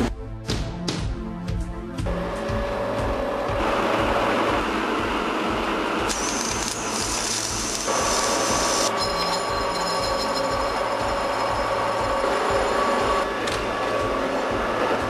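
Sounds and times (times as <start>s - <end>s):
metalworking machines running: 2.0s - 15.0s
lathe turning metal: 2.2s - 15.0s.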